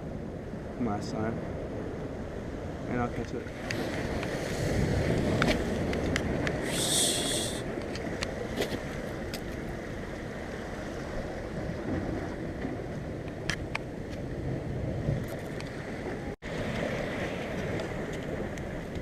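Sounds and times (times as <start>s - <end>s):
ocean surf washing: 0.0s - 19.0s
wind on microphone: 0.0s - 19.0s.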